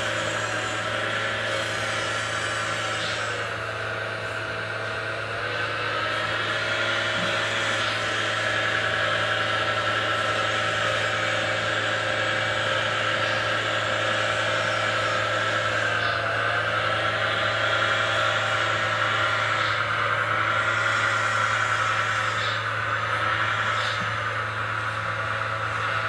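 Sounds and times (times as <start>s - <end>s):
model wheel loader whirring: 0.0s - 26.0s.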